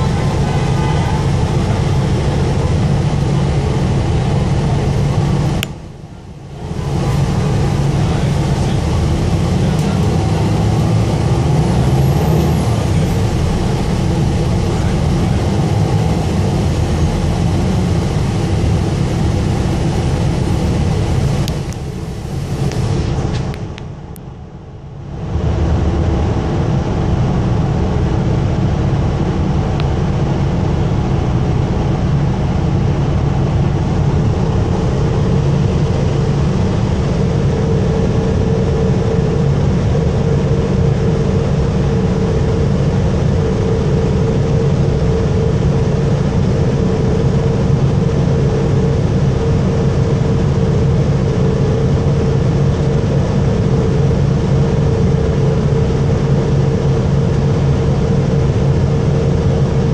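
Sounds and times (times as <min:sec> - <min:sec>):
bus engine rumble from inside: 0:00.0 - 0:59.9
steady hum: 0:00.0 - 0:59.9.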